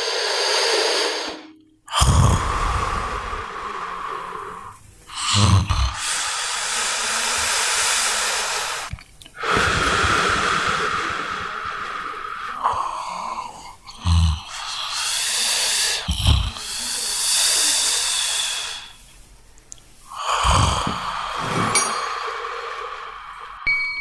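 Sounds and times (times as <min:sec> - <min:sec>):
person snoring: 0:00.0 - 0:19.0, 0:20.1 - 0:23.6.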